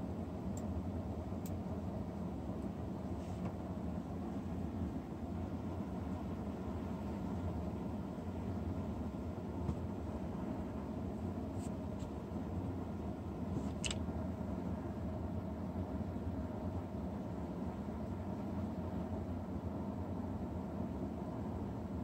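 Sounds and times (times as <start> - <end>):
low hum and hiss: 0.0 - 22.0.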